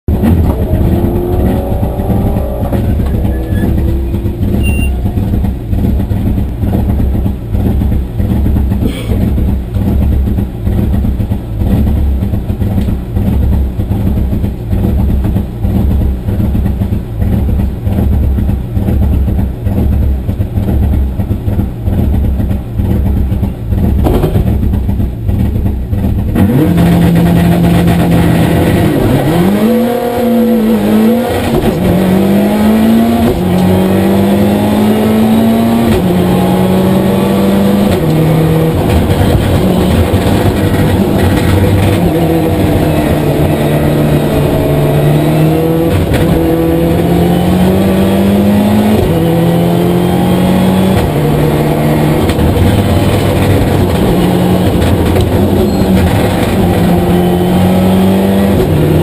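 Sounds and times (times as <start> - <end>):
race car engine idling and revving: 0.0 - 59.0.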